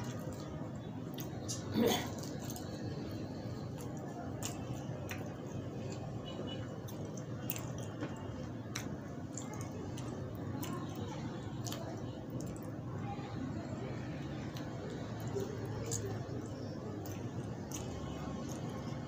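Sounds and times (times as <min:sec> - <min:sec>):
chewing: 0:00.0 - 0:13.6, 0:14.2 - 0:19.0
fingers squishing food: 0:00.0 - 0:19.0.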